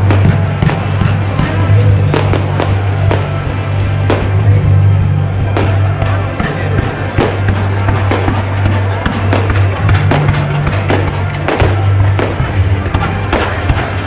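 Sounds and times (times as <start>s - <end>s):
fireworks bangs and crackling: 0.0s - 14.0s
loud music with bass: 0.0s - 14.0s.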